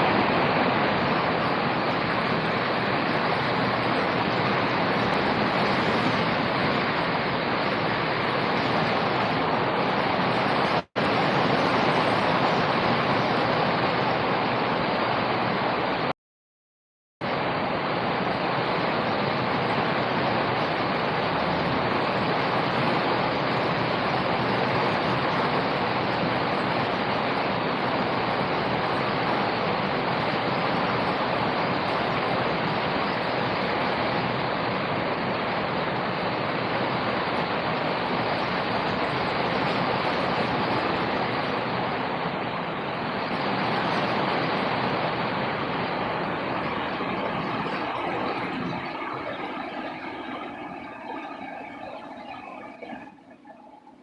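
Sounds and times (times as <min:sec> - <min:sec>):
steady rain hiss: 0:00.0 - 0:16.1, 0:17.2 - 0:53.7.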